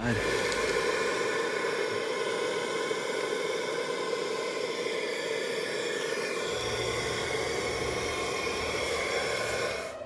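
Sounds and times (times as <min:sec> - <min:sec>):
steady hiss: 0:00.0 - 0:09.8.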